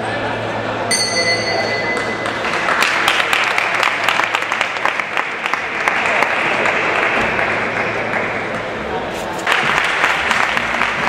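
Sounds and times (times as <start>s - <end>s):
crowd applauding: 1.8s - 11.0s.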